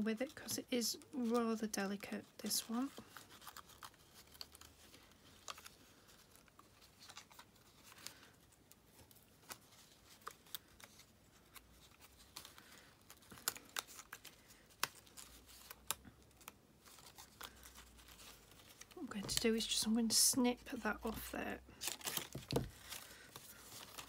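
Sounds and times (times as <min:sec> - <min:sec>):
paper crackling and ticking: 0:00.0 - 0:24.0.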